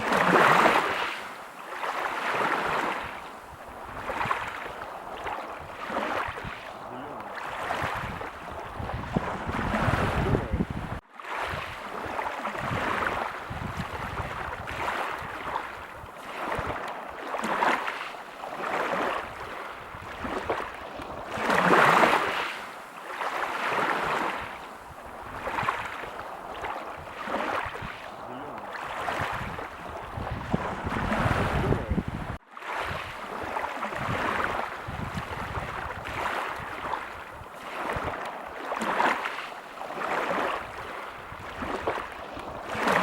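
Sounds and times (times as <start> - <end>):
waves breaking on beach: 0.0 - 43.0.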